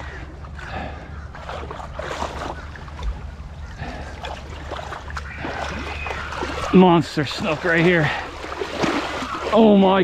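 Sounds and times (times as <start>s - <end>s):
shallow water sloshing and splashing: 0.0s - 10.0s.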